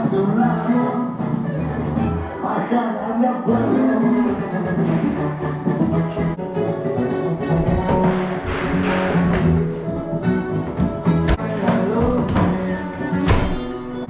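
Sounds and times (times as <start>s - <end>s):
background music with guitar and beat: 0.0s - 2.4s, 3.5s - 14.0s.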